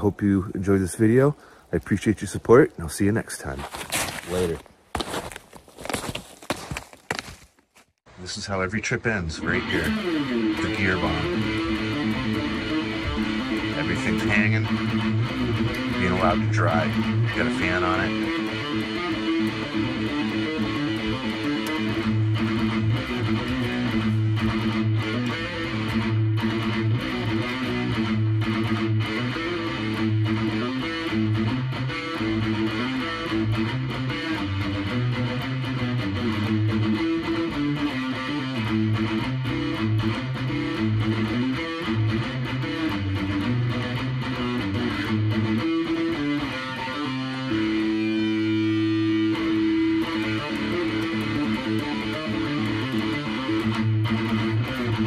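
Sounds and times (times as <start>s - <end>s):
electric guitar playing: 9.2s - 55.0s.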